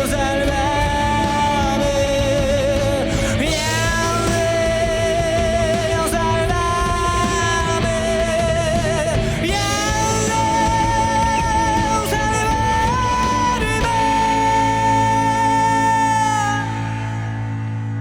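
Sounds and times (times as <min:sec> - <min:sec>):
rock band playing distorted music: 0:00.0 - 0:18.0
wavering lead guitar notes: 0:00.0 - 0:18.0.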